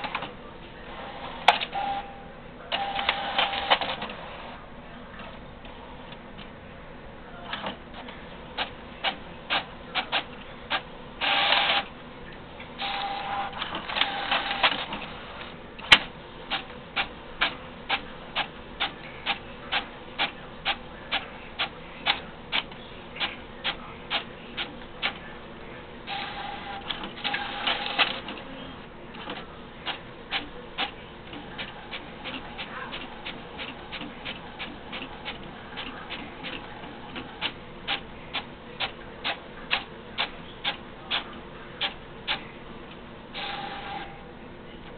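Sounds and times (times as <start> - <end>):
printer motor whirring: 2.7 - 4.6, 8.6 - 12.0, 12.8 - 25.4, 26.0 - 44.2.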